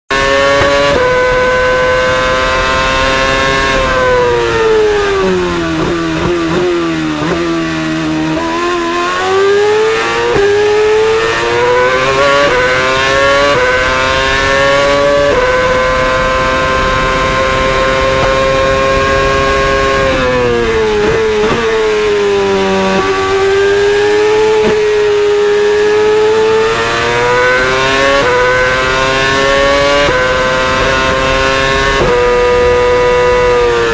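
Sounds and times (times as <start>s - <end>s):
racing car engine at high revs: 0.1s - 33.9s.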